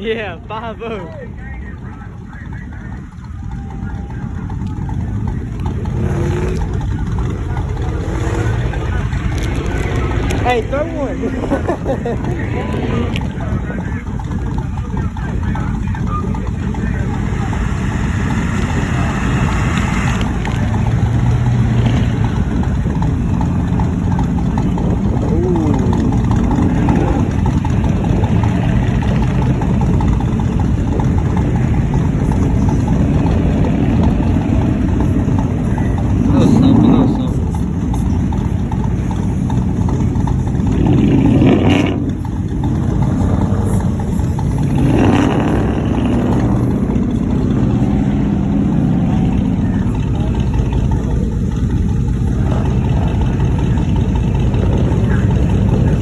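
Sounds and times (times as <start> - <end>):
road rumble: 0.0 - 56.0
vehicle engine droning: 0.0 - 56.0.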